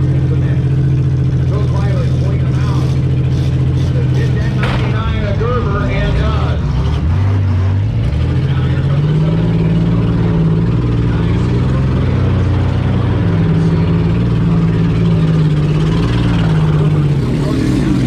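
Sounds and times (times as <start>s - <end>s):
car engine revving loud: 1.8s - 18.0s.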